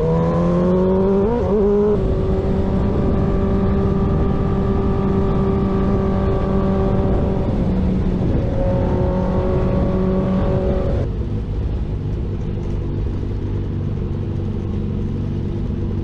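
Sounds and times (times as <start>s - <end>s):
constant rushing noise: 0.0s - 16.0s
motorcycle engine cruising: 0.0s - 16.0s.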